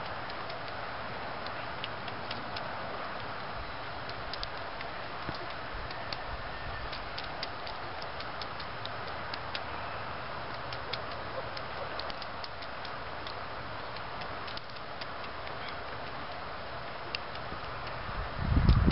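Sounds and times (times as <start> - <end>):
beaks pecking seed on gravel: 0.0 - 18.8
steady background hiss: 0.0 - 18.9.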